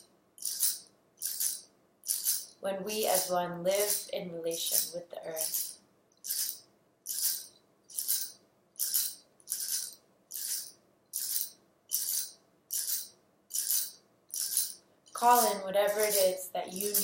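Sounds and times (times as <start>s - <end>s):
hand shaker rattling rhythmically: 0.0s - 17.0s.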